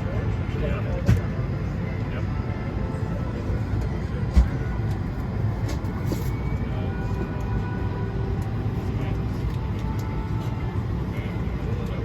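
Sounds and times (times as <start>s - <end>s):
air-conditioning hum: 0.0s - 12.0s
faint whine: 0.0s - 12.0s.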